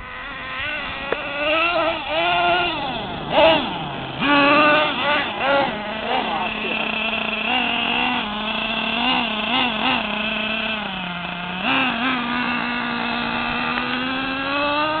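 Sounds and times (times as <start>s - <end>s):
rc truck motor buzzing: 0.0s - 15.0s.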